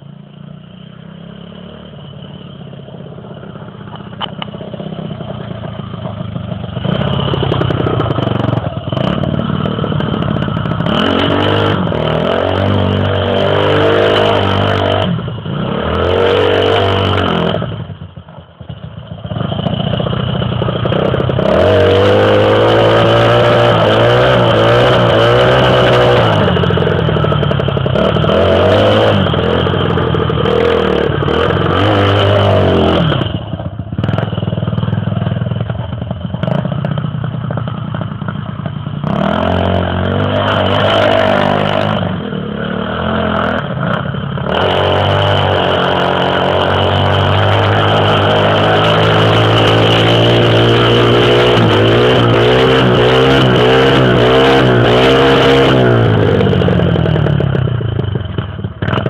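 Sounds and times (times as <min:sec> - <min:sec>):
dirt bike engine revving: 0:00.0 - 0:18.2, 0:18.8 - 0:59.0.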